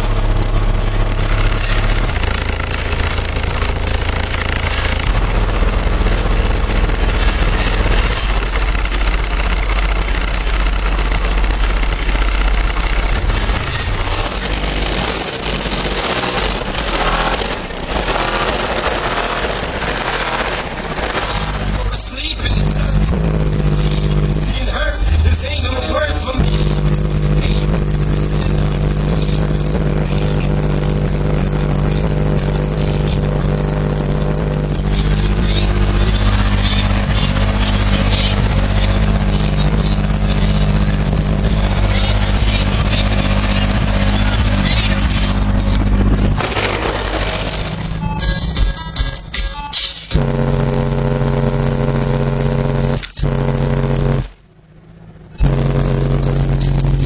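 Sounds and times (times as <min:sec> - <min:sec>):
bass-heavy music through subwoofers: 0:00.0 - 0:54.4, 0:55.3 - 0:57.0.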